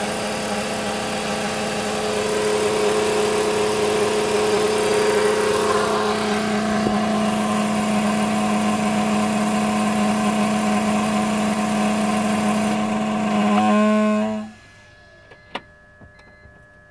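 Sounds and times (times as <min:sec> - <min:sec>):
car engine groaning drone: 0:00.0 - 0:16.9.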